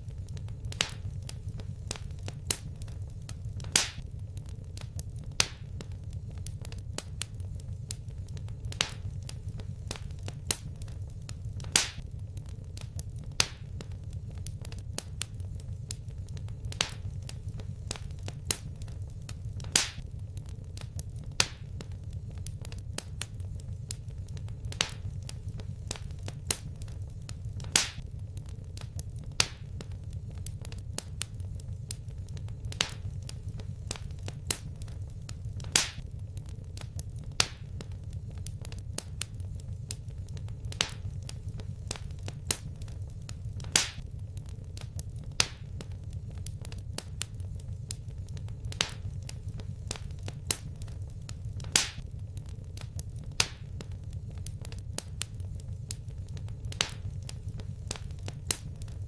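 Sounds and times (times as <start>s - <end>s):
steady low rumble: 0.0s - 59.0s
wood fire crackling: 0.0s - 59.0s.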